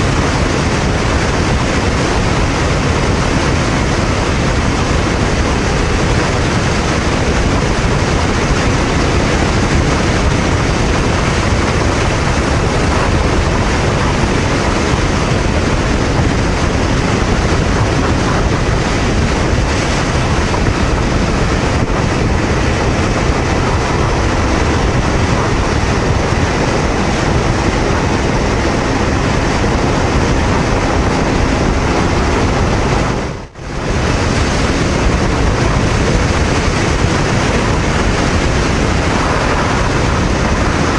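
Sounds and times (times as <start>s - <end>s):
motorcycle engine drone: 0.0s - 40.9s
road noise: 0.0s - 40.9s
wind rushing over microphone: 0.0s - 40.9s.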